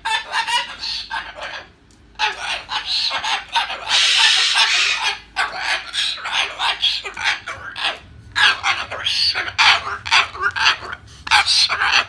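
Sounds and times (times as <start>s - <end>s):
cockatoo harsh call: 0.0s - 12.0s.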